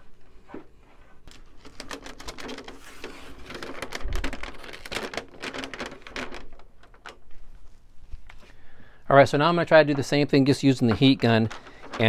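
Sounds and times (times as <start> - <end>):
plastic film crinkling: 0.1 - 8.6, 9.5 - 12.0.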